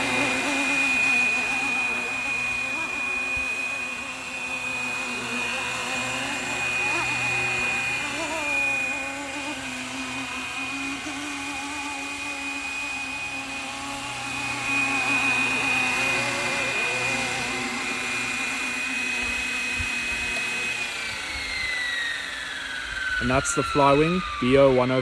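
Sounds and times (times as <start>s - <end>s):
lower hum: 0.0s - 25.0s
rc helicopter high whine: 0.0s - 25.0s.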